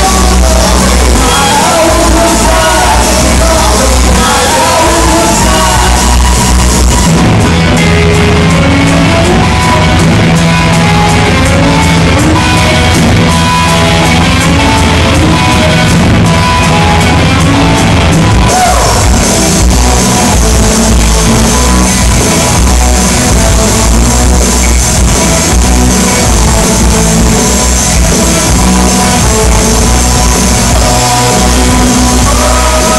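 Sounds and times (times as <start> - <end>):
drums: 0.0 - 32.9
electric guitar: 0.0 - 32.9
rock band playing loudly: 0.0 - 32.9.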